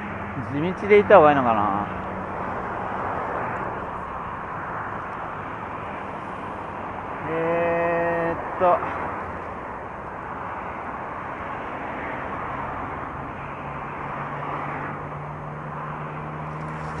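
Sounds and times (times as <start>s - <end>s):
road traffic: 0.0s - 17.0s
vehicle engine hum: 0.0s - 17.0s.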